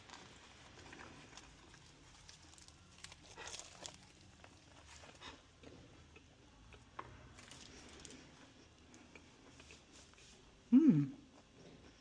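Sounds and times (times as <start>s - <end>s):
person chewing: 0.2s - 10.3s.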